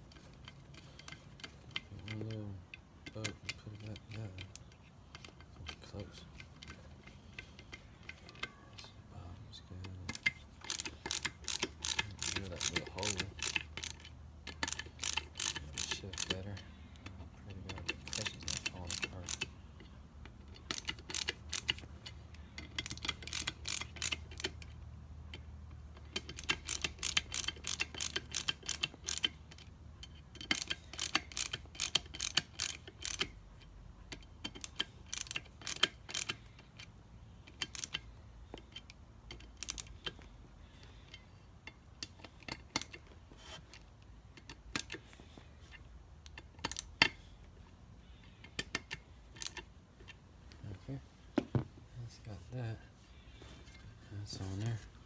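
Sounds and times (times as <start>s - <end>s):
ratchet tool clicking: 0.0s - 8.6s, 10.0s - 45.1s, 45.7s - 47.2s, 48.1s - 50.2s.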